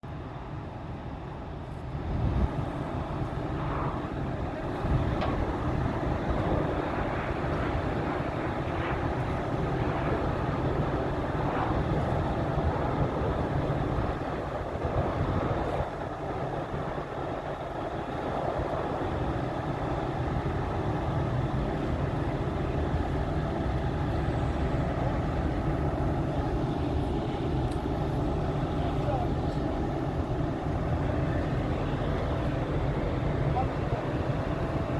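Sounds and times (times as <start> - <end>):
heavy equipment engine running: 0.4 - 34.9.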